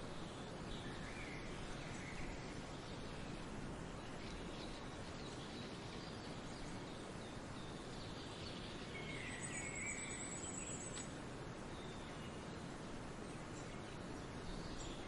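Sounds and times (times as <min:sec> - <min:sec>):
faint bird chirps: 0:00.0 - 0:15.0
steady background hiss: 0:00.0 - 0:15.0.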